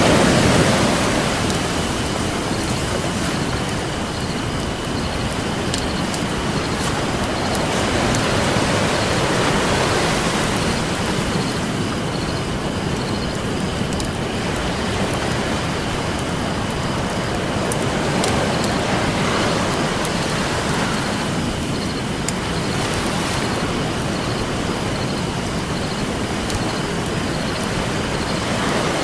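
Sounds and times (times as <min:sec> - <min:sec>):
campfire crackling: 0:00.0 - 0:29.0
ocean waves washing on beach: 0:00.0 - 0:29.0.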